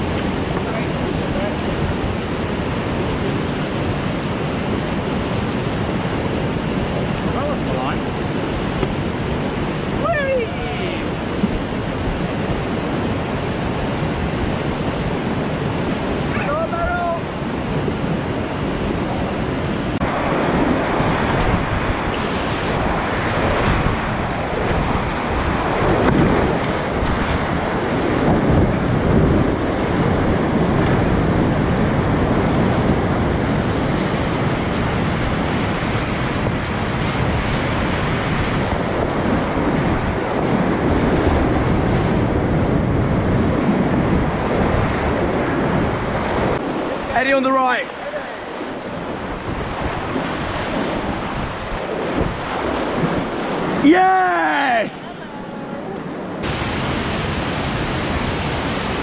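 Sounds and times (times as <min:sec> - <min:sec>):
whitewater rapids rushing: 0:00.0 - 0:59.0.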